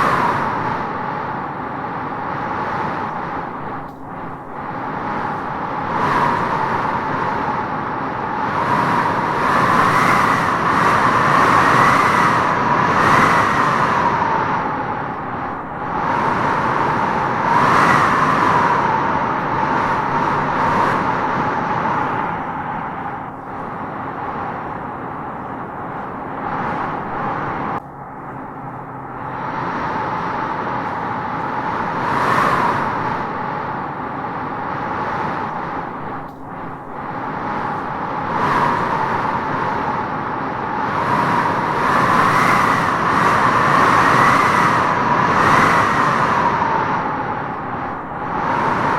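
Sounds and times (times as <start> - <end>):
wind howling through trees: 0.0 - 48.9.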